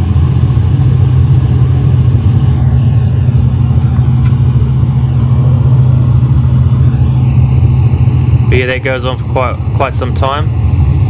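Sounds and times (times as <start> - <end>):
low rumbling hum: 0.0 - 11.0.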